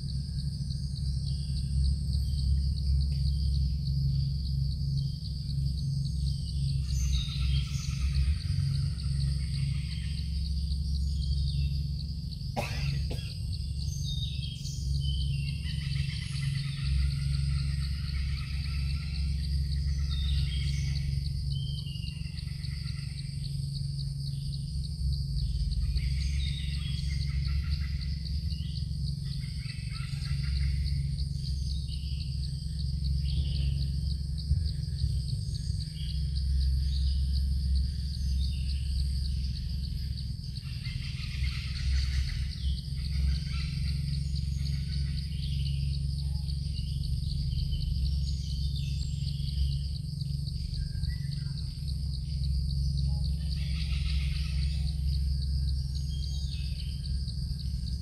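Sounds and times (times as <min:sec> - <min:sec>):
insects trilling: 0:00.0 - 0:58.0
low rumble: 0:00.0 - 0:58.0.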